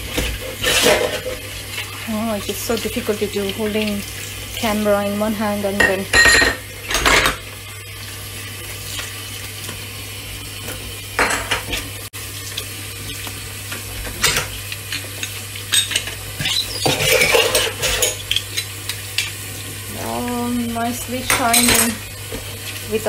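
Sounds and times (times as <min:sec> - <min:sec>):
tap water running into sink: 0:00.0 - 0:23.0.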